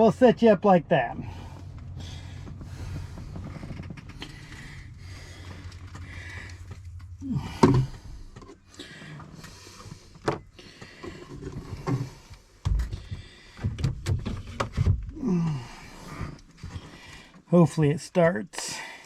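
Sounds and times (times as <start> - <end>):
low hum in truck cab: 0.0 - 19.0.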